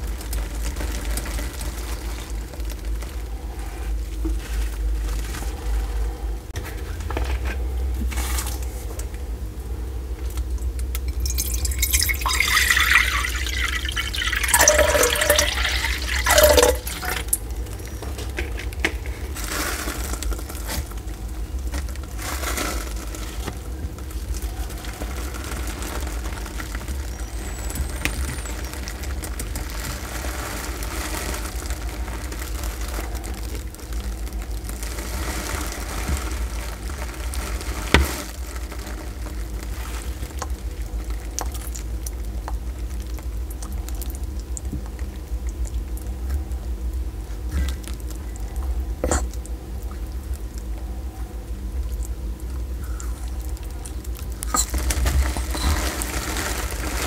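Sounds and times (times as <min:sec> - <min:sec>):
steady low hum: 0:00.0 - 0:57.0
tortoise rustling and clicking: 0:00.0 - 0:57.0.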